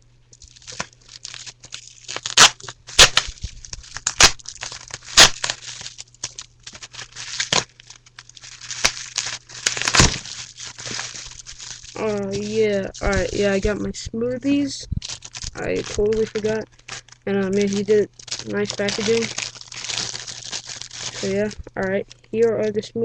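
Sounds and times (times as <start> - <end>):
plastic packaging crinkling: 0.3 - 22.8.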